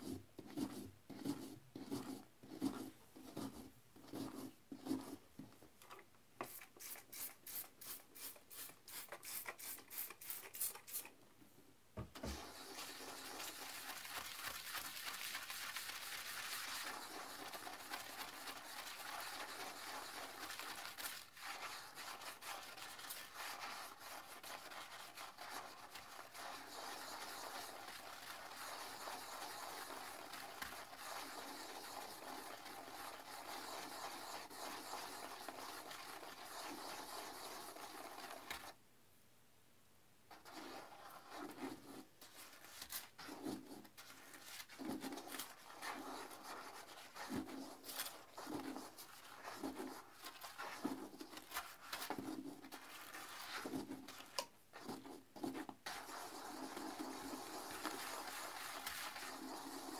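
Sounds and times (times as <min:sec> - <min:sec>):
toilet brush scrubbing bowl: 0:06.4 - 0:11.1, 0:12.2 - 0:38.8, 0:40.3 - 0:59.9.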